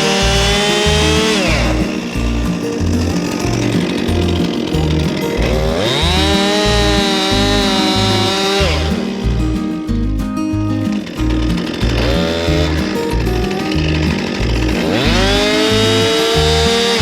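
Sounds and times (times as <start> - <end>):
chainsaw cutting wood: 0.0 - 9.6, 11.3 - 17.0.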